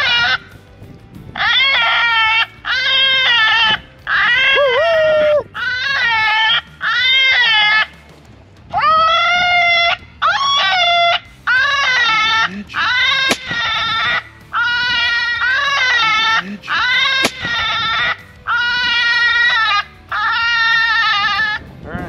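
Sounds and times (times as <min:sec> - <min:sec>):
electronic animal distress cry: 0:00.0 - 0:00.5, 0:01.4 - 0:08.0, 0:08.7 - 0:21.6.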